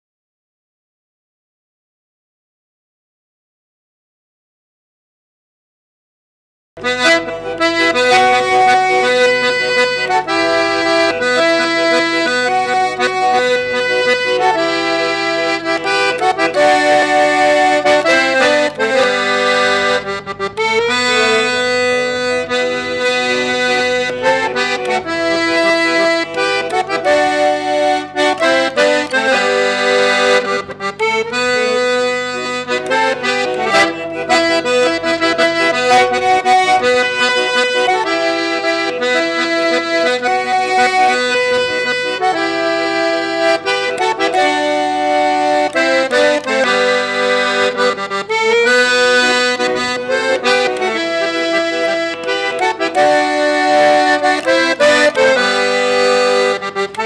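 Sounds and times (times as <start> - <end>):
button accordion playing: 6.8 - 57.0.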